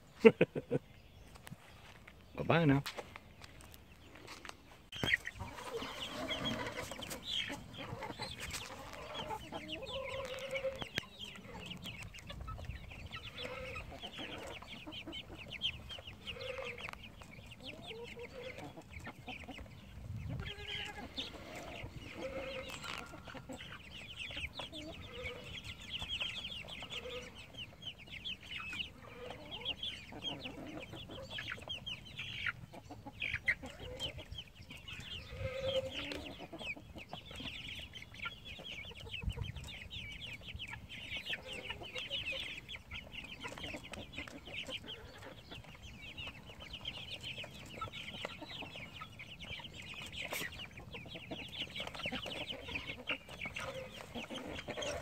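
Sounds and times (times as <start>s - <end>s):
chicken clucking: 0.0s - 55.0s
chicks peeping: 0.0s - 55.0s.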